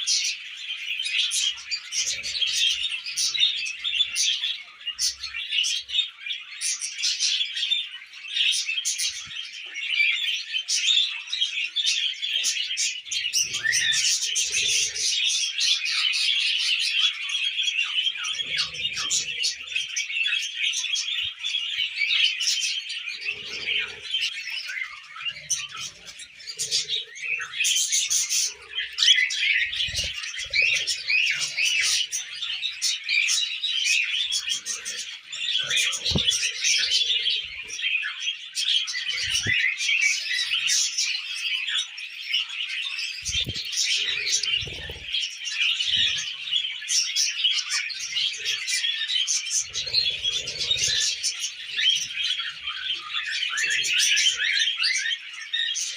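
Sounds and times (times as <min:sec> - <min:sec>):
budgerigars chattering: 0:00.0 - 0:55.9.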